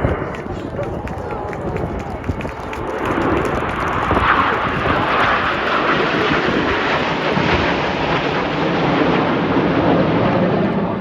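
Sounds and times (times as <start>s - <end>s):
aircraft engine flying by: 0.0s - 11.0s.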